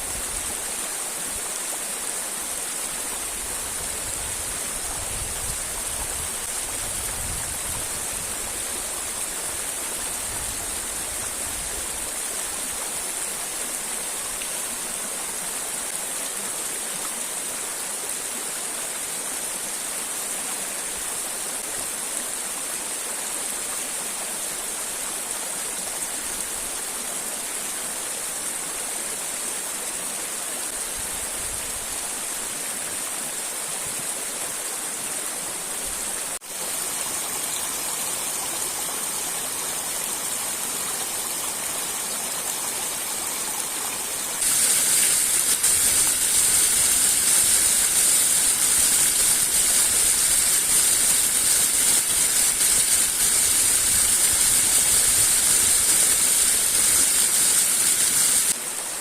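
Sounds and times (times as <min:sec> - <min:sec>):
rushing river water: 0:00.0 - 0:59.0
waterfall: 0:00.0 - 0:59.0.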